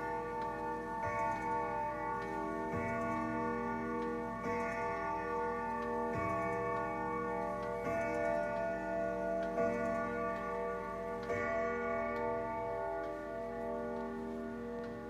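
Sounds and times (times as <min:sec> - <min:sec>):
clock striking on chime rods: 0:00.0 - 0:15.0.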